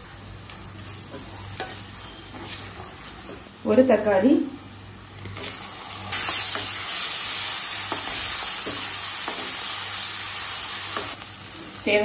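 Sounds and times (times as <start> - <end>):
tomato sizzling in hot oil: 0.0 - 12.0.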